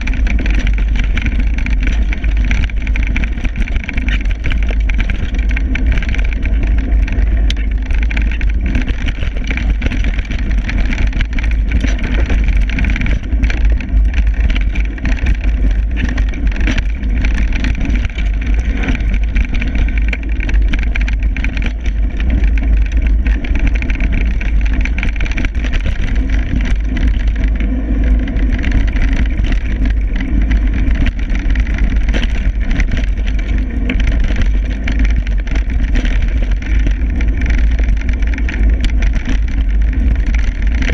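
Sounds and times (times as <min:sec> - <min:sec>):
bike rattling over bumps: 0:00.0 - 0:40.9
tyres rolling on dirt: 0:00.0 - 0:40.9.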